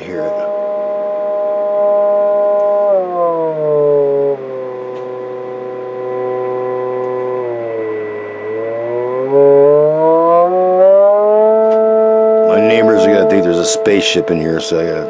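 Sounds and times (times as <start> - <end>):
buzzy test tone: 0.0 - 15.0.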